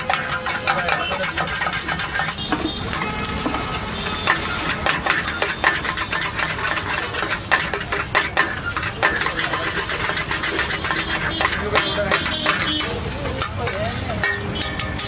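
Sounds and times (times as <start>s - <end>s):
food sizzling: 0.0s - 15.0s
metal spatula scraping a wok: 0.0s - 15.0s.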